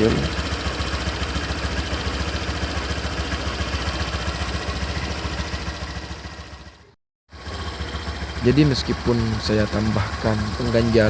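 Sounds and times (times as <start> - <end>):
scooter engine idling with rough growl: 0.0 - 11.0.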